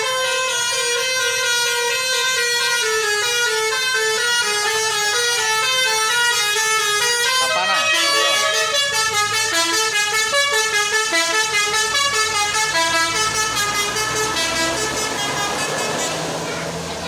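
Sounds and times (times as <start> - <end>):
bus horn playing melody: 0.0 - 17.0.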